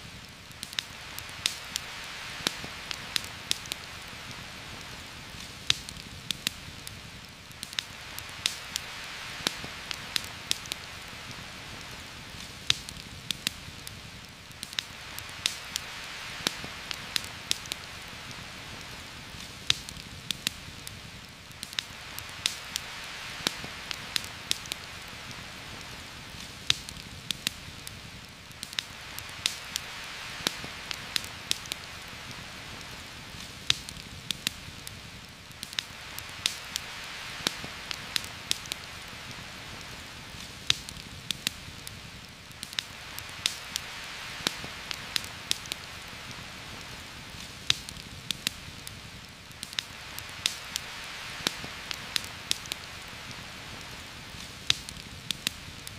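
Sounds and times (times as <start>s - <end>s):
heavy rain on forest canopy: 0.0s - 55.9s
sharp pops and ticks: 0.5s - 55.9s.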